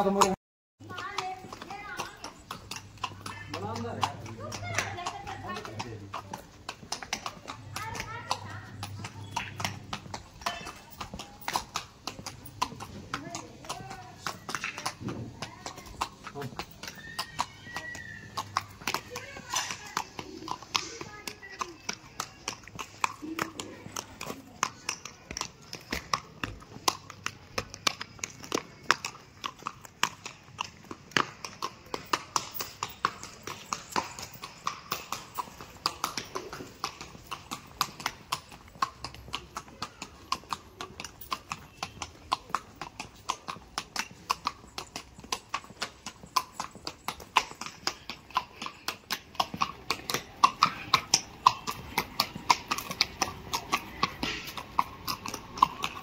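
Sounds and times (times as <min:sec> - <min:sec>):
horse hooves clip-clopping: 0:00.0 - 0:56.0.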